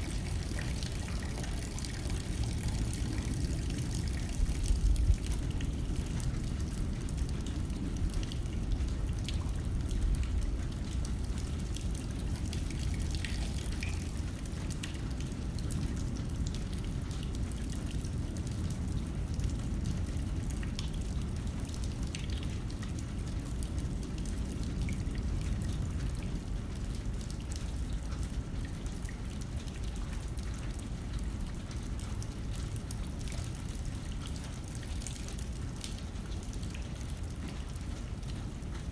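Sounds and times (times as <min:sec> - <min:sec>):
rain hitting a window: 0:00.0 - 0:38.9.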